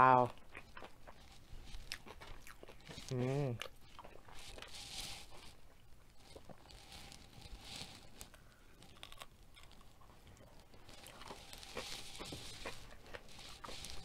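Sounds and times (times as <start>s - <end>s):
crunching fried chicken: 0.1s - 14.0s.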